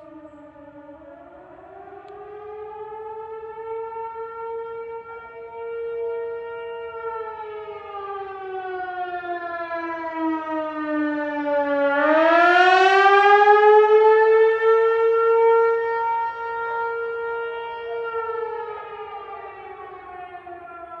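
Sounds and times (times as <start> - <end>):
warning siren wailing: 0.0 - 21.0.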